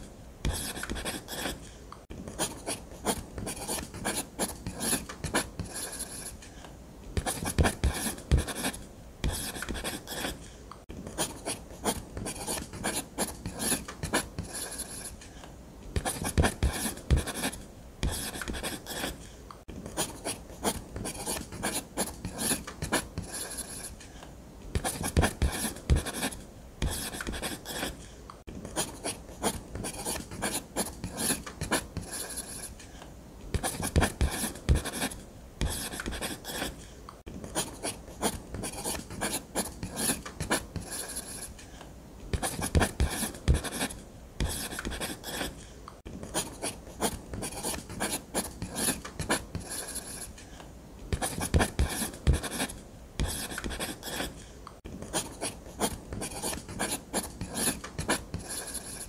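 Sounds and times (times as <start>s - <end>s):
ballpoint pen scratching paper: 0.4s - 1.7s, 2.3s - 6.5s, 7.2s - 10.5s, 11.1s - 15.2s, 15.9s - 19.2s, 19.8s - 24.0s, 24.7s - 32.8s, 33.5s - 36.9s, 37.5s - 41.6s, 42.4s - 45.6s, 46.3s - 50.4s, 51.1s - 54.4s, 55.0s - 59.0s.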